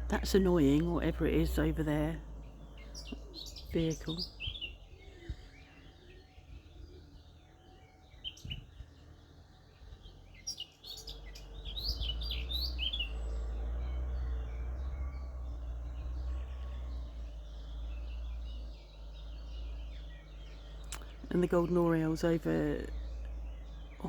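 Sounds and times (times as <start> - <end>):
birds chirping: 0.0 - 24.0
distant vehicle rumble: 0.0 - 24.0.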